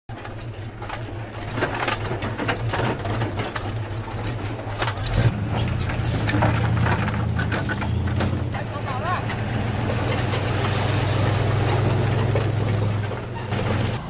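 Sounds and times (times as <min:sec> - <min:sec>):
gun carriages clanking and rattling: 0:00.1 - 0:14.0
truck engines running: 0:00.1 - 0:14.0.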